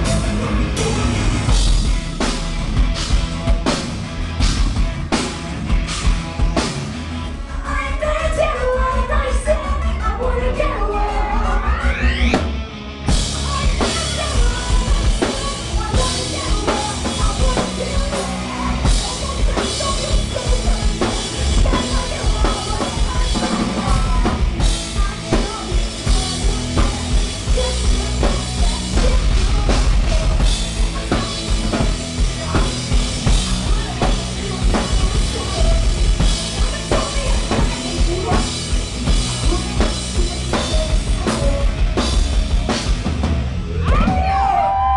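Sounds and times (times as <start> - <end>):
pounding drum kit: 0.0 - 44.9
rock band playing loud: 0.0 - 44.9.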